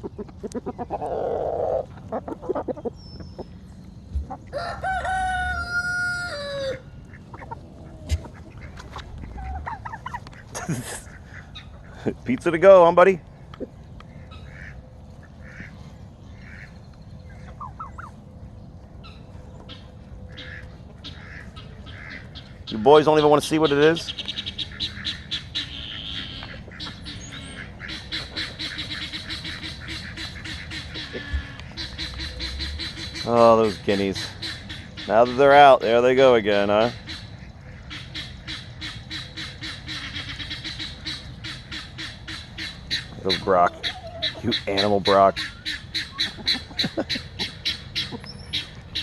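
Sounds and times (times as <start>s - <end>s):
guinea fowl cackling: 0.0s - 12.2s, 13.5s - 18.2s, 19.0s - 49.0s
poultry calling: 0.0s - 12.2s, 13.6s - 18.2s, 19.0s - 49.0s.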